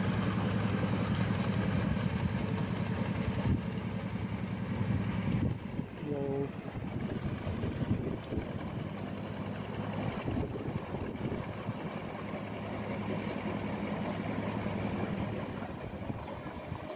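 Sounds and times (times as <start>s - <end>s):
hand tractor engine running: 0.0s - 16.9s.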